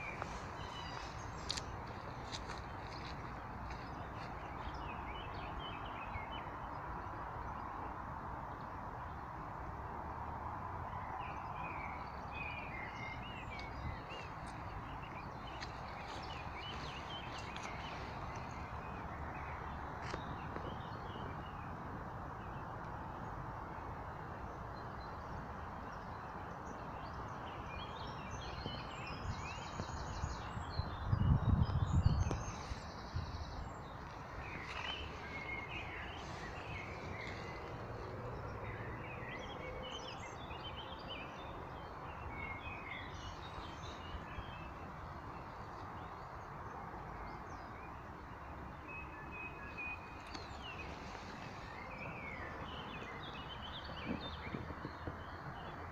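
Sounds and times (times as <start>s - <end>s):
small birds chirping: 0.0s - 7.8s, 11.4s - 21.8s, 24.5s - 55.9s.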